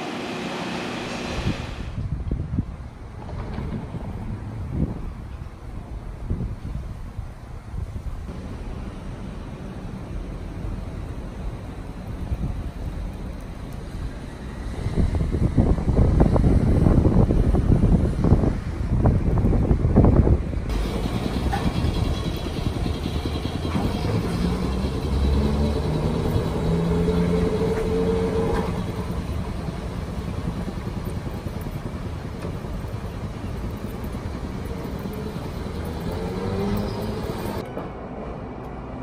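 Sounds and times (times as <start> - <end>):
streetcar rumbling past: 0.0 - 39.0
wind buffeting microphone: 1.2 - 8.5, 9.4 - 35.7.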